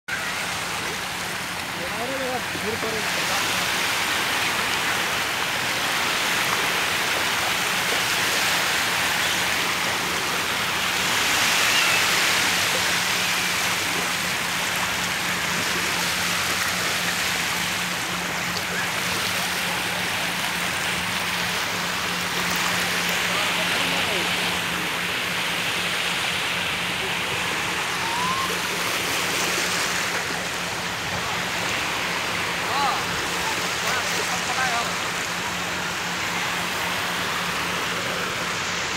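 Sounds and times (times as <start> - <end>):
small waves washing on a beach: 0.1 - 38.9.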